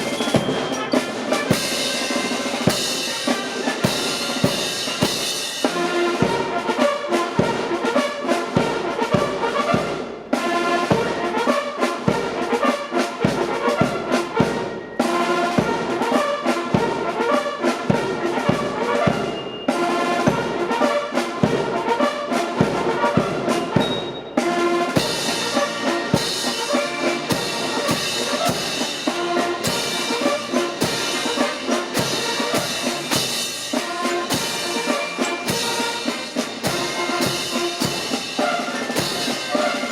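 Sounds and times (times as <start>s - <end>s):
marching band playing a march: 0.0s - 39.9s
steady drumbeat: 0.0s - 39.9s.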